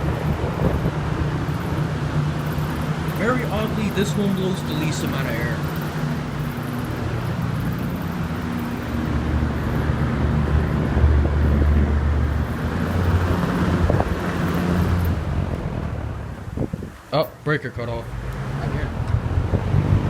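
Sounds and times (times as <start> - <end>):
wind buffeting on microphone: 0.0 - 17.1, 18.4 - 20.0
box fans running: 0.0 - 20.0.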